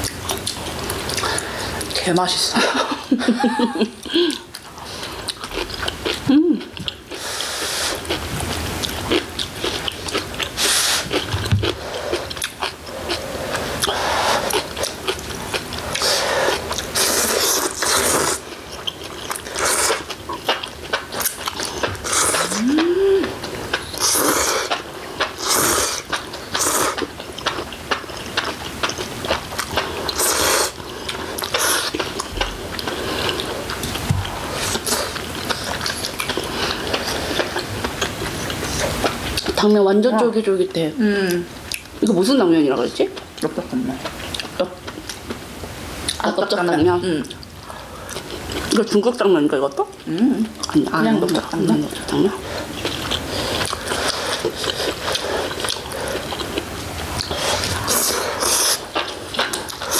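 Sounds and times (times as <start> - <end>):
slurping and chewing noodles: 0.0 - 3.0, 3.6 - 39.8, 47.3 - 49.0, 49.9 - 59.9.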